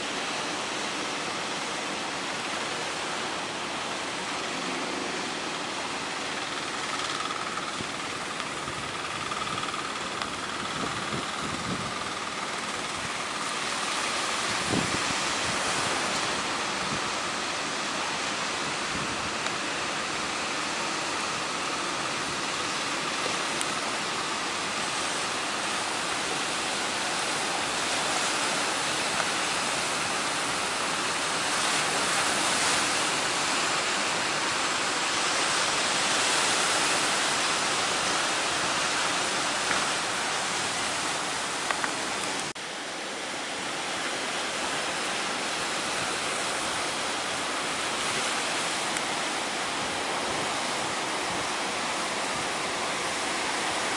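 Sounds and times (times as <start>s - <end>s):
heavy surf: 0.0s - 53.9s
strong wind: 6.8s - 53.9s.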